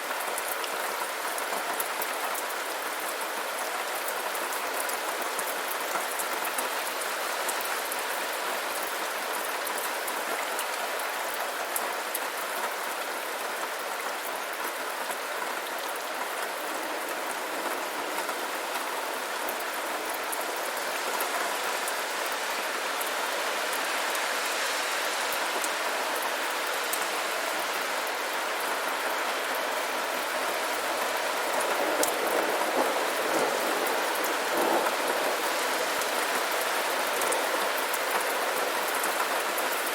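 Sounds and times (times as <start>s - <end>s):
rain hissing on surfaces: 0.0s - 39.9s
raindrop patter: 0.1s - 24.2s, 28.0s - 39.9s.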